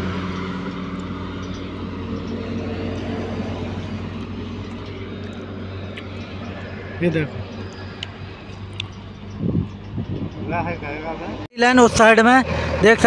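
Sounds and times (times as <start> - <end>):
diesel engine running: 0.0 - 13.0
highway traffic: 0.0 - 13.0.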